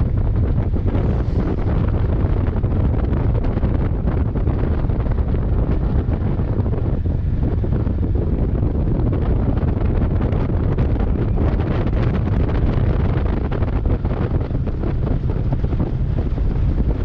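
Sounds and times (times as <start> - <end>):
road noise: 0.0 - 17.0
wind rush on microphone: 0.0 - 17.0.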